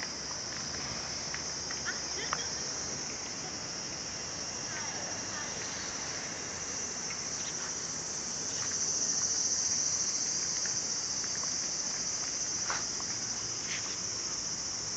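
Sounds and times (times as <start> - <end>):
high-pitched insect chorus: 0.0 - 14.9.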